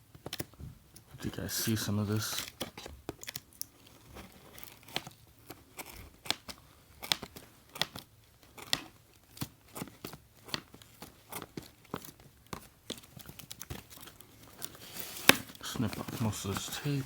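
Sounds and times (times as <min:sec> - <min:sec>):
packing tape peeling off cardboard: 0:02.0 - 0:17.0.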